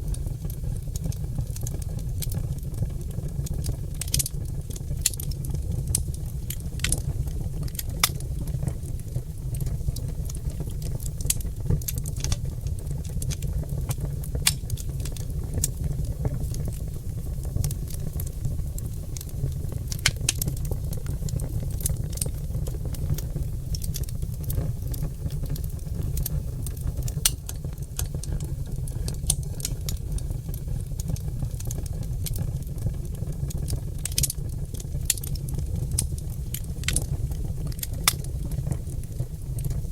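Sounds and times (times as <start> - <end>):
log fire crackling and popping: 0.0 - 39.9.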